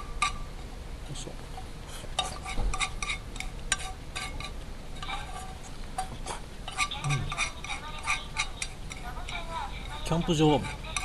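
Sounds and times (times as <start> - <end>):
metal utensil scraping a pan: 1.9 - 11.0.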